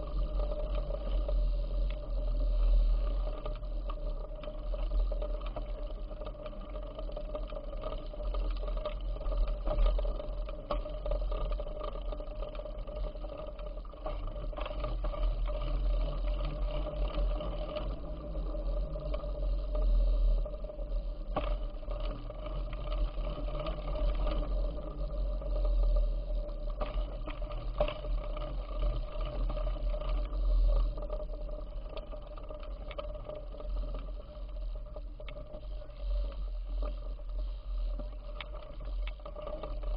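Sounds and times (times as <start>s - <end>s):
bicycle clicks and rattles: 0.0s - 39.9s
steady hum: 0.0s - 39.9s.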